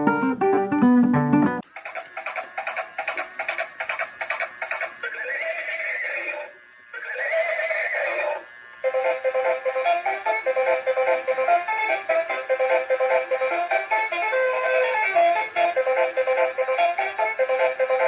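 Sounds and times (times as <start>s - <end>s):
toy playing electronic music: 1.6s - 18.0s.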